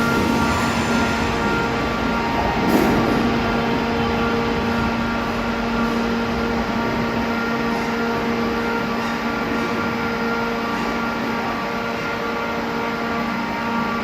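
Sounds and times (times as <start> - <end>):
mechanical drone: 0.0 - 14.0
steady humming tones: 0.0 - 14.0.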